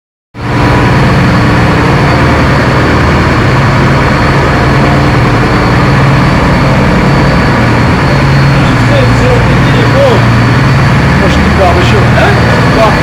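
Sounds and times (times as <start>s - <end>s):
boat engine humming: 0.4s - 13.0s
water rushing wash: 0.4s - 13.0s.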